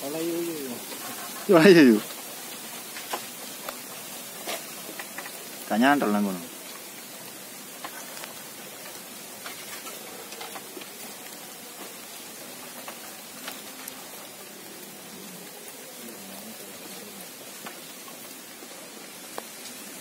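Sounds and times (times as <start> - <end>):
rain falling on water and foliage: 0.0 - 20.0.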